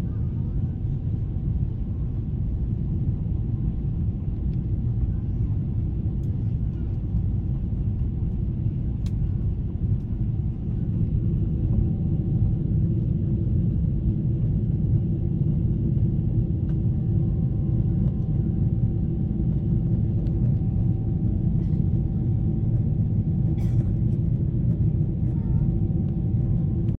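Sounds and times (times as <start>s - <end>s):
jet cabin engine rumble: 0.0s - 27.0s.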